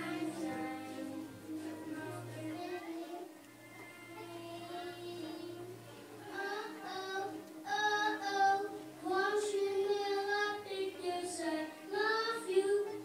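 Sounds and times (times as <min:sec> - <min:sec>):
boy singing: 0:00.0 - 0:03.3, 0:04.1 - 0:13.0.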